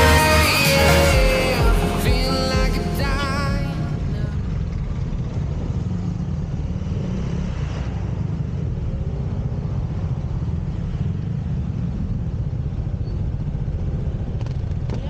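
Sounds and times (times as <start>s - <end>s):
motorcycle engine and road rumble: 0.0s - 15.0s.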